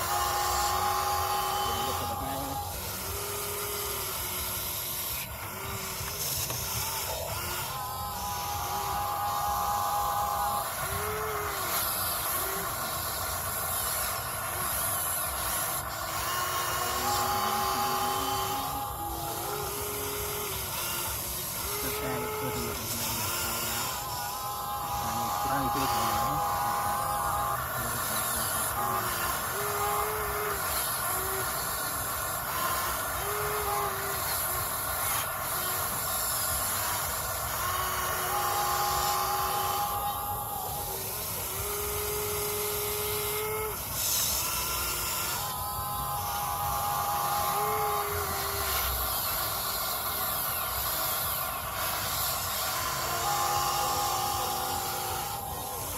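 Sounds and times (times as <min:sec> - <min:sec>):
hydraulic pump hiss and whine: 0:00.0 - 0:55.9.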